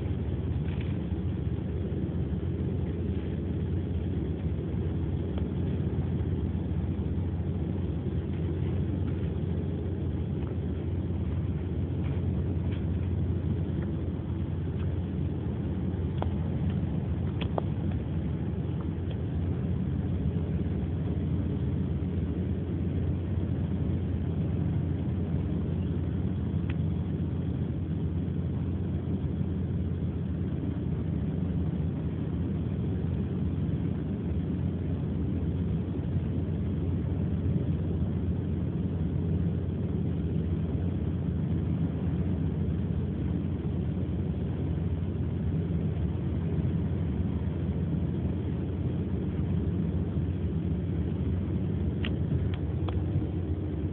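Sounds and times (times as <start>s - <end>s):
car engine rumble inside cabin: 0.0s - 53.9s.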